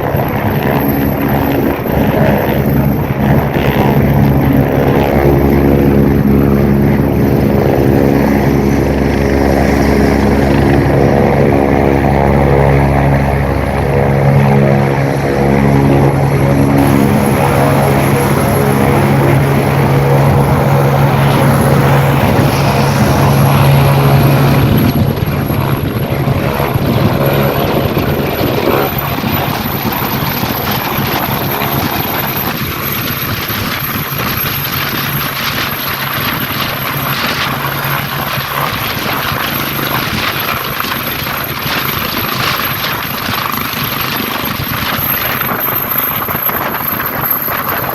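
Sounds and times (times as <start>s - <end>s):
helicopter rotor and engines: 0.0s - 47.9s
high turbine whine: 0.0s - 47.9s.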